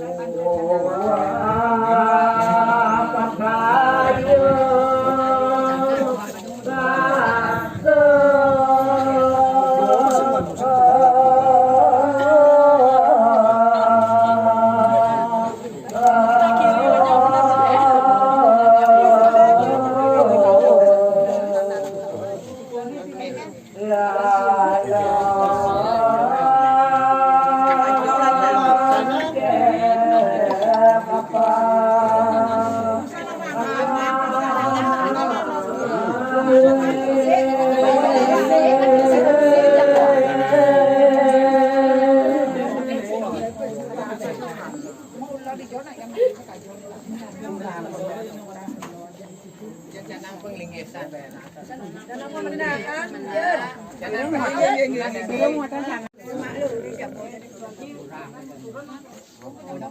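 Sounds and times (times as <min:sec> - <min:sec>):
voices singing unaccompanied chant: 0:00.0 - 0:59.9.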